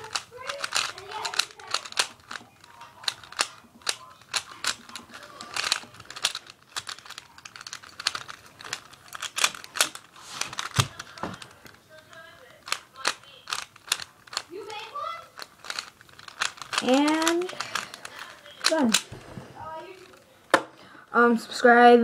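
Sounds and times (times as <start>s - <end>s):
plastic puzzle cube clicking: 0.0s - 20.6s.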